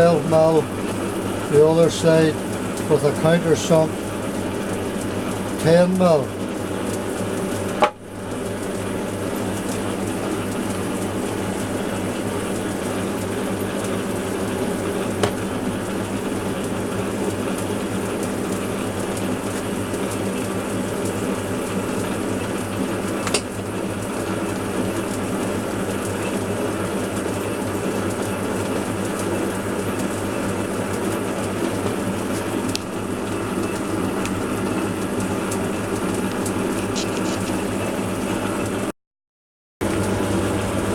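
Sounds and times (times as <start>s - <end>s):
metal lathe running: 0.0s - 38.8s.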